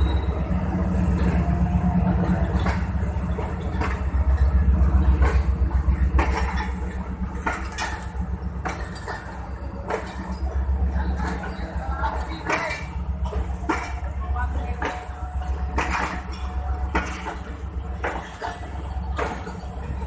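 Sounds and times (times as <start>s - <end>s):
train rumbling along track: 0.0s - 20.0s
wheels clacking over rail joints: 0.0s - 20.0s.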